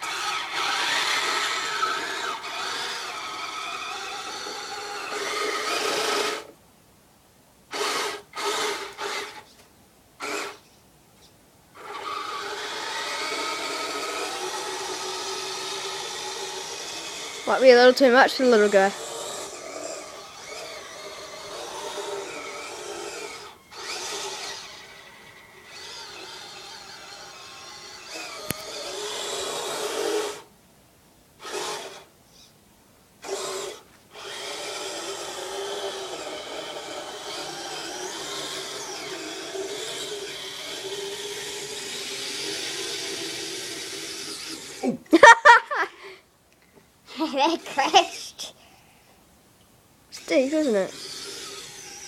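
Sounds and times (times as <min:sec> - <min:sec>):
electric motor whining: 0:00.0 - 0:06.5, 0:07.7 - 0:09.5, 0:10.2 - 0:10.6, 0:11.8 - 0:30.5, 0:31.4 - 0:32.1, 0:33.2 - 0:44.9, 0:50.2 - 0:52.0.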